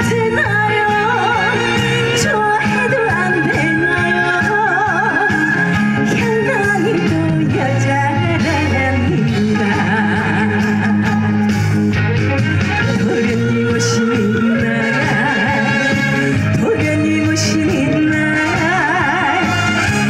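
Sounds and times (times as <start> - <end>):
woman singing: 0.0 - 11.6, 12.8 - 20.0
loud band music: 0.0 - 20.0.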